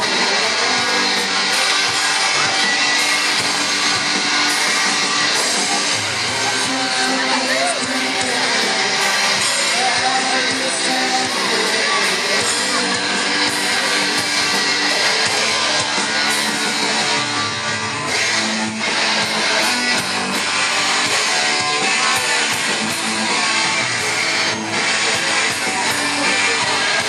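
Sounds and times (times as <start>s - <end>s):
live rock band with electric guitars: 0.0s - 27.0s.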